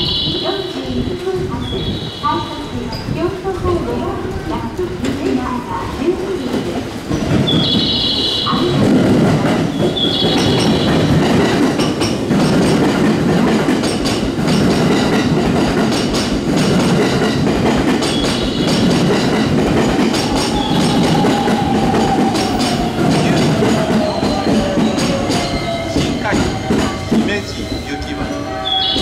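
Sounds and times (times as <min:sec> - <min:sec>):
train wheels clacking on rails: 0:00.0 - 0:29.0.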